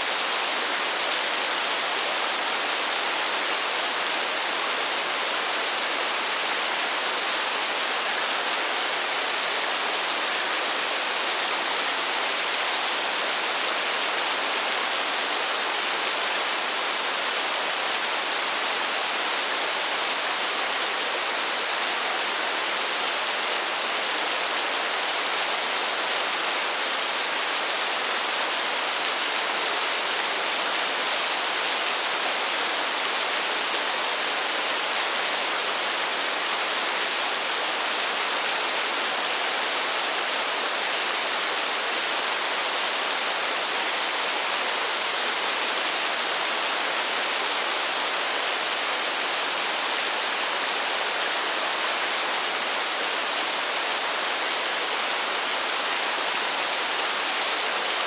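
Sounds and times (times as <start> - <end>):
dense rain hiss: 0.0 - 58.0.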